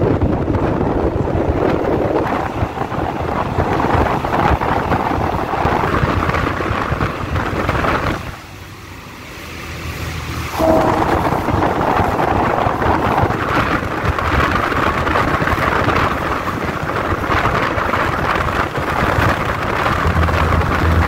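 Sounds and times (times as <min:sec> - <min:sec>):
wind buffeting microphone: 0:00.0 - 0:08.8, 0:09.8 - 0:21.0
moving train rumble: 0:00.0 - 0:21.0.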